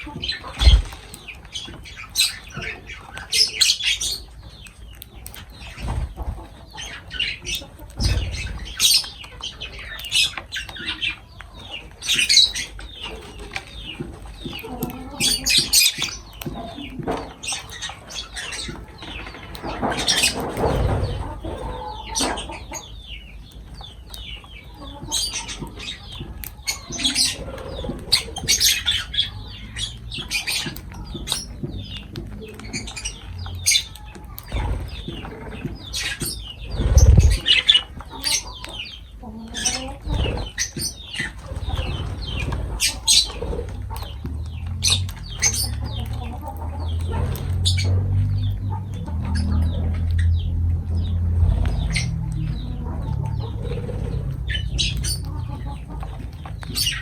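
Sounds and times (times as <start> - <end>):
wings fluttering: 0.0 - 4.2, 5.2 - 11.1, 12.0 - 22.5, 25.1 - 38.8, 39.6 - 57.0
birds chirping: 0.0 - 57.0.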